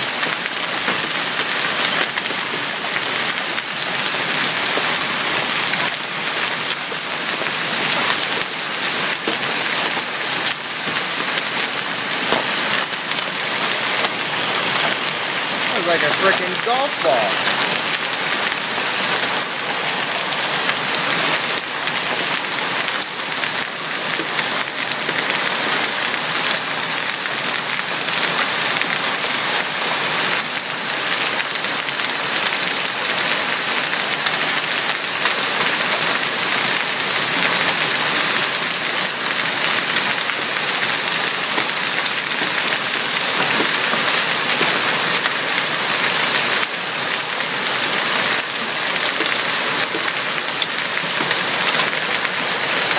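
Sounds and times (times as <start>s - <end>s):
rain falling: 0.0s - 52.9s.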